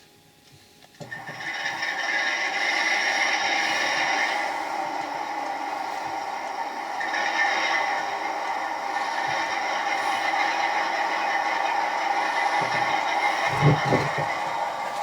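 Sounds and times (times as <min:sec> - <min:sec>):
model locomotive running: 0:00.0 - 0:15.0.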